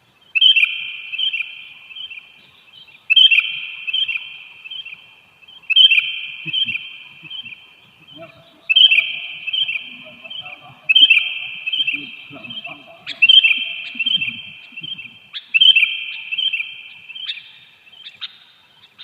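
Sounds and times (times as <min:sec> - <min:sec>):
bird chirping: 0:00.2 - 0:19.0.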